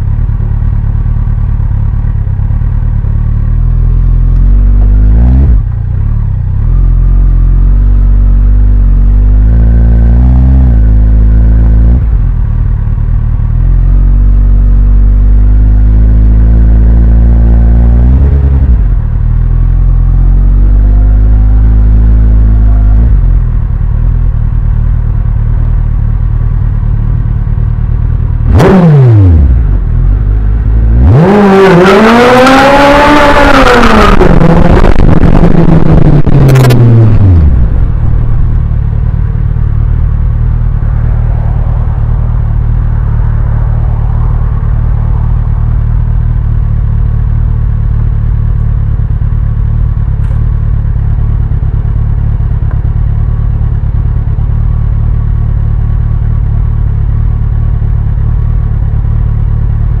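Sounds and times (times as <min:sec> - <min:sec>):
motorcycle engine revving and idling: 0:00.0 - 1:00.0.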